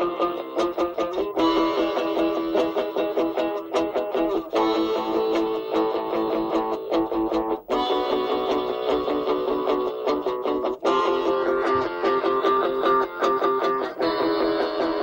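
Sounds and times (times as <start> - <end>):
guitar music through phone speaker: 0.0 - 15.0.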